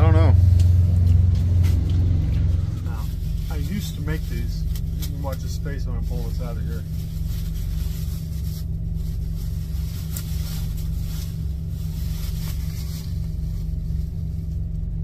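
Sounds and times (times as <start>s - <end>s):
diesel engine idling: 0.0s - 15.0s
faint clicks and rustles: 0.6s - 15.0s.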